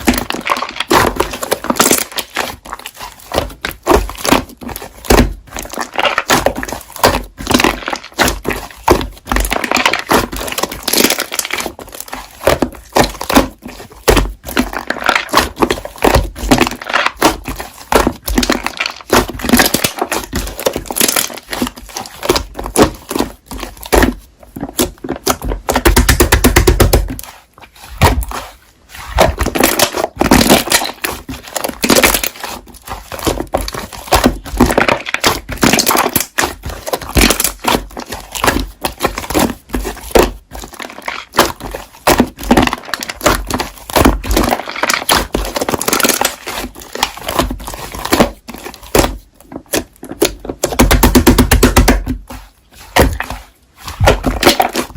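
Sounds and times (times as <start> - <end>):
slime squelching and popping: 0.0 - 54.9.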